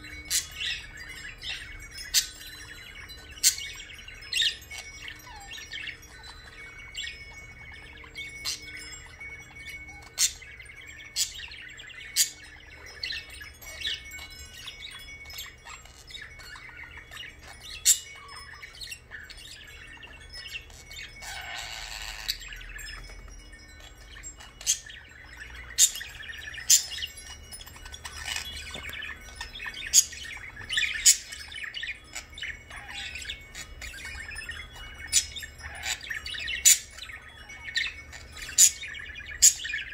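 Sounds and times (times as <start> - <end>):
sharp high bird chirps: 0.0 - 39.9.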